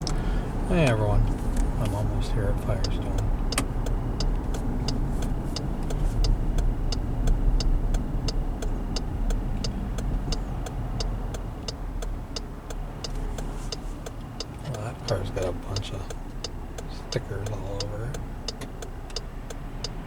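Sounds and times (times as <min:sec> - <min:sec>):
car driving rumble: 0:00.0 - 0:20.0
turn signal clicking: 0:00.0 - 0:20.0.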